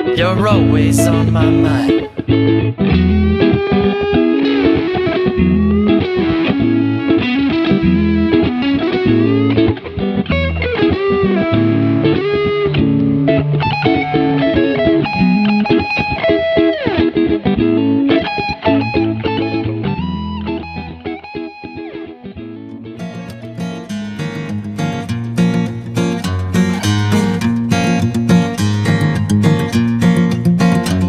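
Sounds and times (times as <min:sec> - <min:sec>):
bass guitar: 0:00.0 - 0:21.4, 0:22.3 - 0:31.0
electric guitar with effects: 0:00.0 - 0:31.0.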